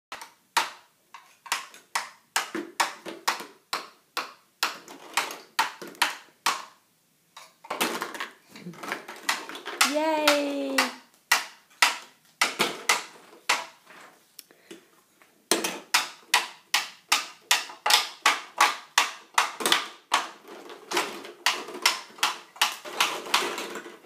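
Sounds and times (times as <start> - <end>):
plastic blocks knocking in bin: 0.1 - 6.8, 7.6 - 13.8, 15.5 - 24.0.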